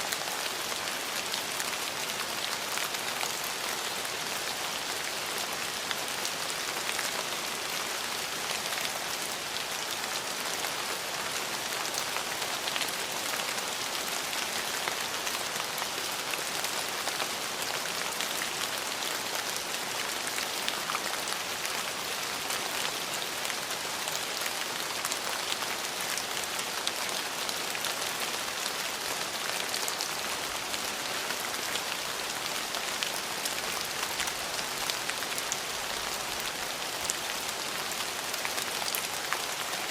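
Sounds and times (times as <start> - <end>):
rain on hard surfaces: 0.0 - 39.9
ticks of raindrops: 0.0 - 39.9.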